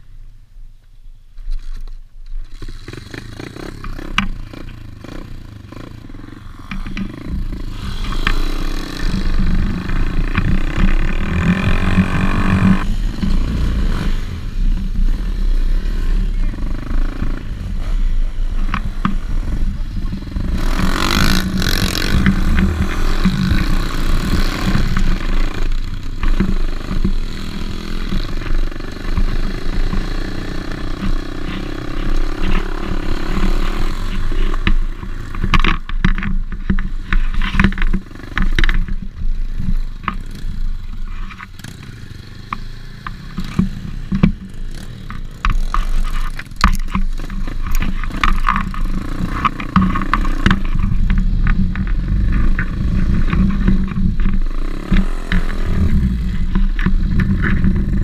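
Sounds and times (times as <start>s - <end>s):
bike rattling over bumps: 1.4s - 58.0s
motorbike engine running: 2.5s - 58.0s.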